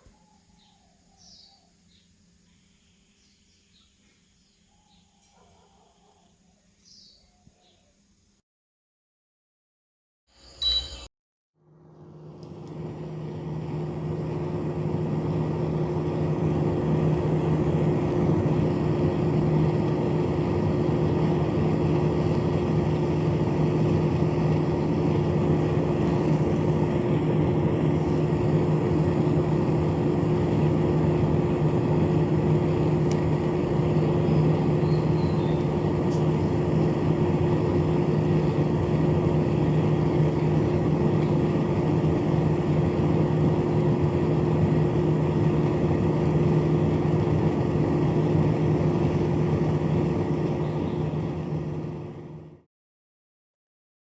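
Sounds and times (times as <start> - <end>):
small fan motor humming: 0.0 - 7.7, 10.4 - 52.6.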